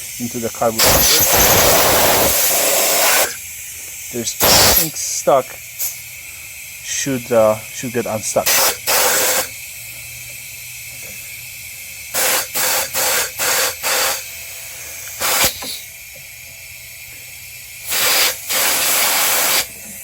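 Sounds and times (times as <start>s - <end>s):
compressed air blasts: 0.0s - 7.0s, 8.4s - 16.1s, 17.5s - 20.0s
faint steady air hiss: 0.0s - 20.0s.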